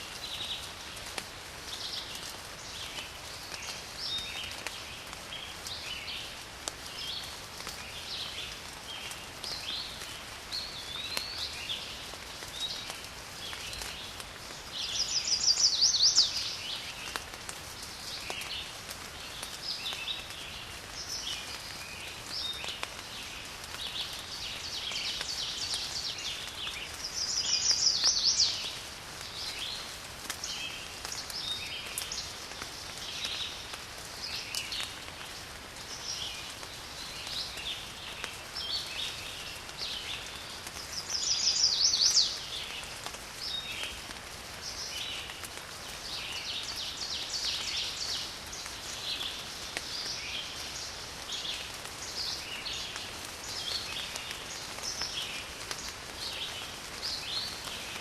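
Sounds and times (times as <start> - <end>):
steady rain: 0.0 - 58.0
small birds chirping: 0.1 - 58.0.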